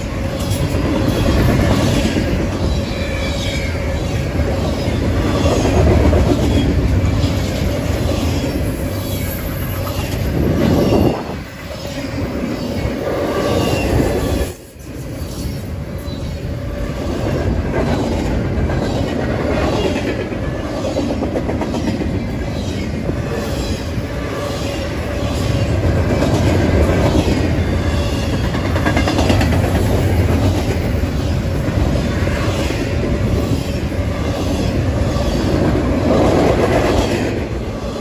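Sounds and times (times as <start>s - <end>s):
rhythmic clicking of train cars: 0.0s - 38.0s
steel wheels rumbling on rail: 0.0s - 38.0s.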